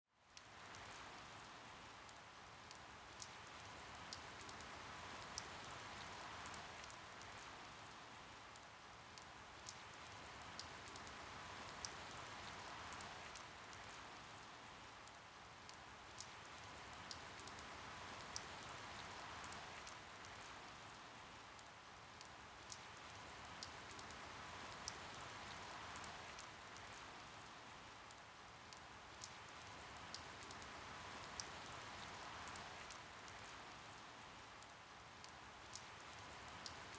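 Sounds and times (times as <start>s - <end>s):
rain pattering and dripping: 0.2s - 36.9s.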